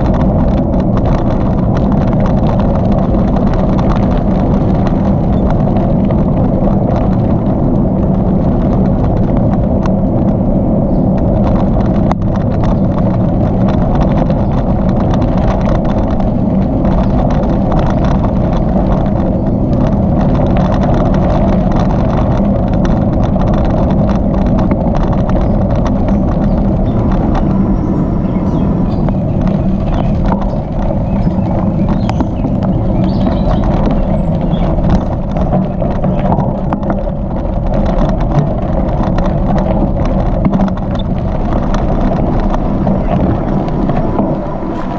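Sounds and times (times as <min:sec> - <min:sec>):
tyres rolling on trail: 0:00.0 - 0:44.9
wind rushing over microphone: 0:00.0 - 0:44.9.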